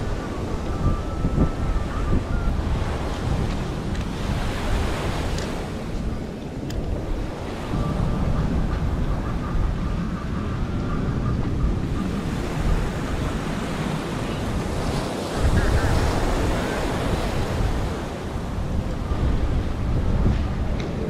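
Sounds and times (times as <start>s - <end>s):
ocean waves washing: 0.0s - 21.0s
wind buffeting microphone: 0.0s - 21.0s.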